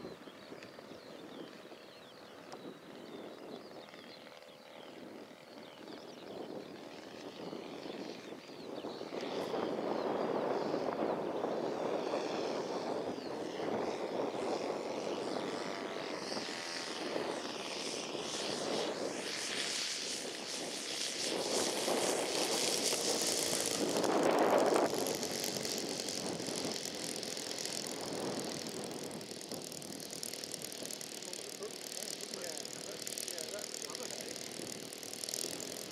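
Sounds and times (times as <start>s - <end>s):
model airplane engine and propeller: 0.0s - 35.9s.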